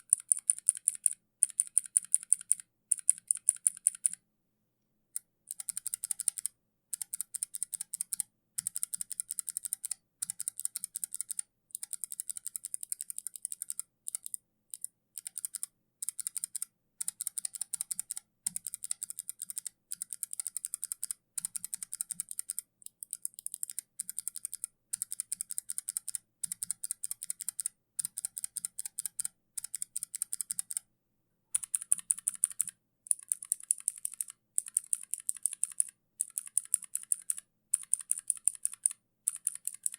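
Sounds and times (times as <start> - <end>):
mechanical keyboard typing: 0.0 - 4.2, 5.2 - 30.8, 31.6 - 39.9.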